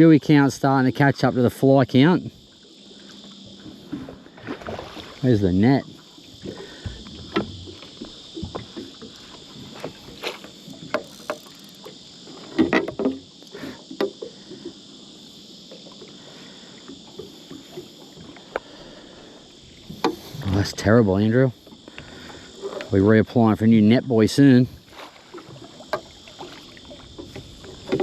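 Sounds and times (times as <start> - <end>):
knocks and clatters in a boat: 0.0 - 14.8, 19.8 - 28.0
water splashes: 0.0 - 14.8, 15.6 - 28.0
high drone of insects: 0.0 - 28.0.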